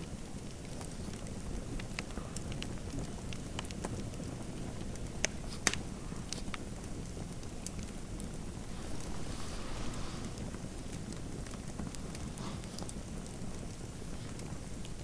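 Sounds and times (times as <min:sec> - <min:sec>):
fire popping and snapping: 0:00.0 - 0:15.0
fireplace fire crackling: 0:00.0 - 0:15.0.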